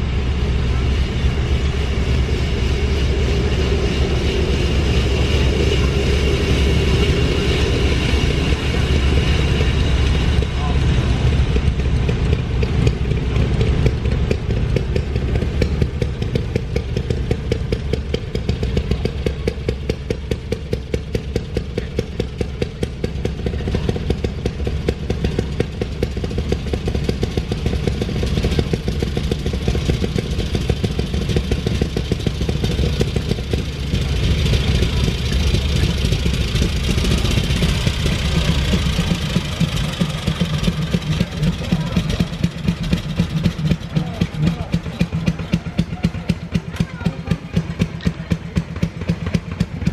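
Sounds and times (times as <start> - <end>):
small engines on rails: 0.0 - 49.9.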